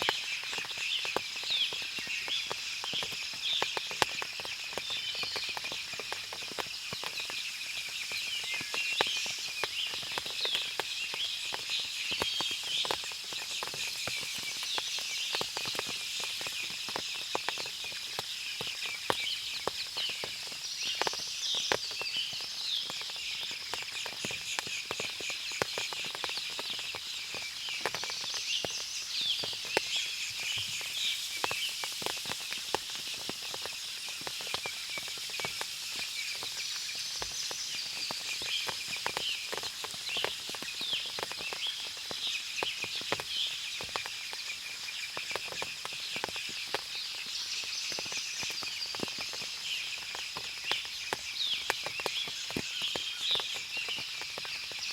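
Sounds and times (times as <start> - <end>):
small birds chirping: 0.0 - 54.9
small ticks: 0.0 - 54.9.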